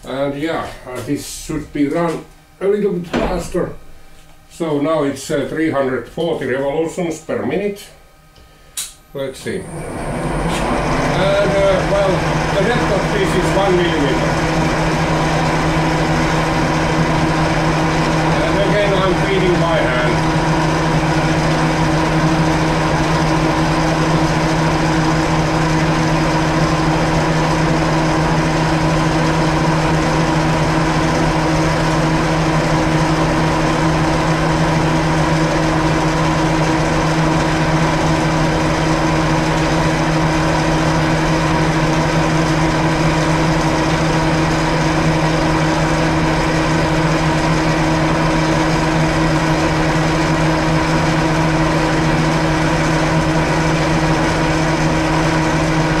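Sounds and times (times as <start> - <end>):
milling machine hum: 0.0 - 56.0
end mill cutting metal: 9.5 - 56.0.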